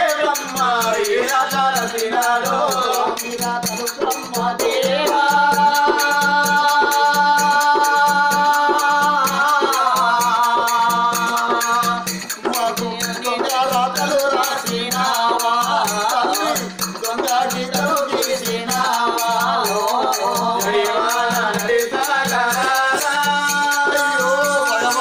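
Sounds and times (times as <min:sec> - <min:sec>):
metal percussion jingling: 0:00.0 - 0:25.0
voices singing: 0:00.0 - 0:25.0.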